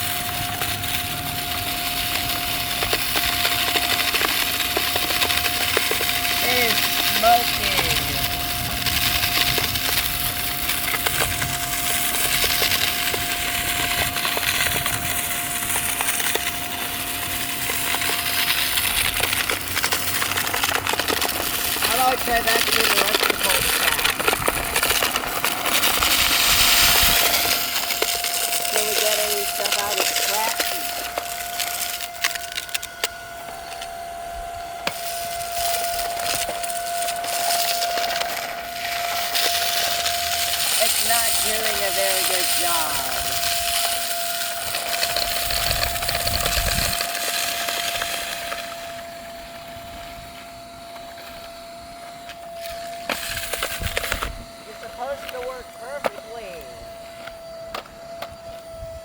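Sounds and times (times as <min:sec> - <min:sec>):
sand ticking and rattling: 0:00.0 - 0:33.1, 0:34.9 - 0:49.0
vacuum motor whine: 0:00.0 - 0:59.0.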